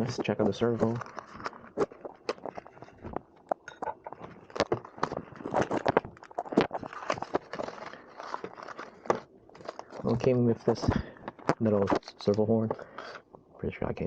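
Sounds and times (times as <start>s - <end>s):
plastic packaging crinkling: 0.0s - 13.3s.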